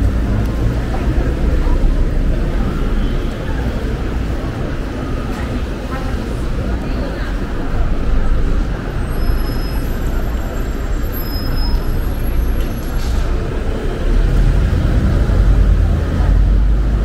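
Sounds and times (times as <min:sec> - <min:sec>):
traffic rumble on wet street: 0:00.0 - 0:17.0.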